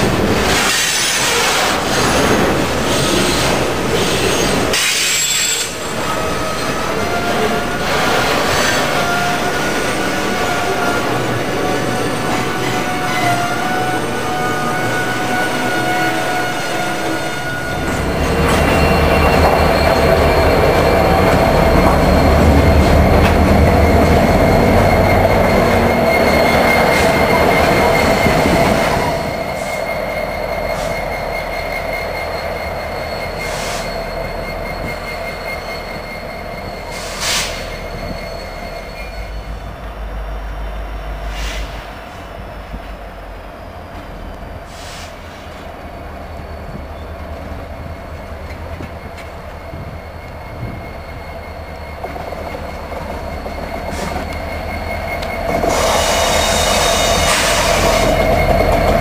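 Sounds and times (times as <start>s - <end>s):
train rumbling: 0.0s - 59.0s
wheel squeal: 0.4s - 40.0s, 43.9s - 59.0s.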